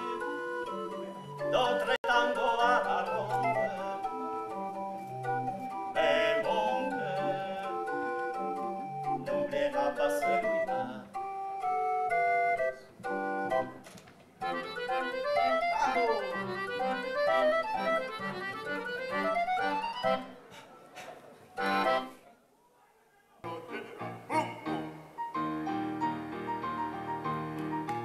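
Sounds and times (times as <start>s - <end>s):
organ-like keyboard music: 0.0s - 20.5s, 21.6s - 22.2s, 23.4s - 28.0s.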